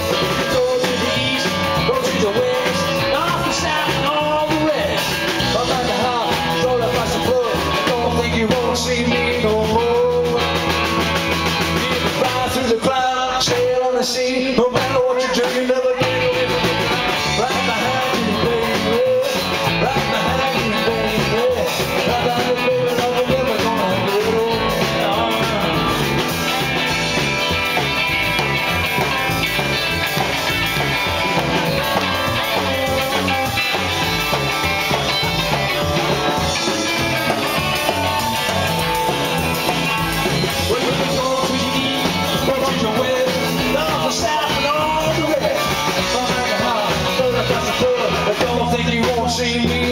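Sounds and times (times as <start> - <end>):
electric guitars: 0.0 - 49.9
live rock band playing: 0.0 - 49.9.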